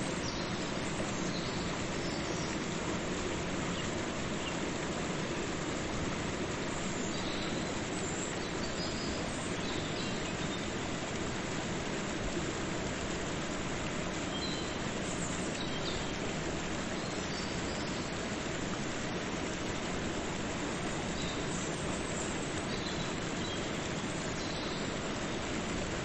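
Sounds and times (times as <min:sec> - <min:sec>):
waterfall and river rushing: 0:00.0 - 0:26.0.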